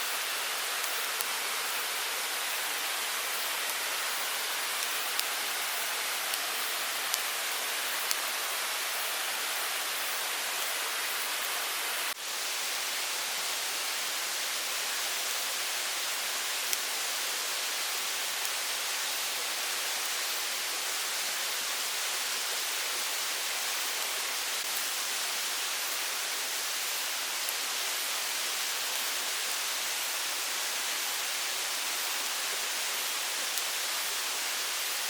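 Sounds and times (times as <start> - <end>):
mountain stream rushing: 0.0 - 35.0.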